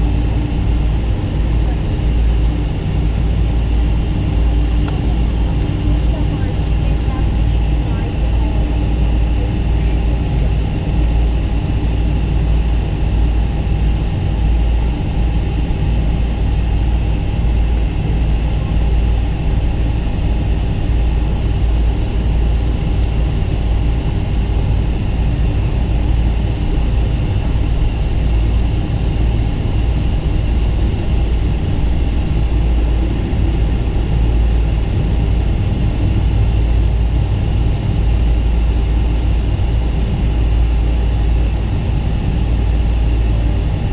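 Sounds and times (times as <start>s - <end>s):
jet engines rumbling in cabin: 0.0s - 43.9s.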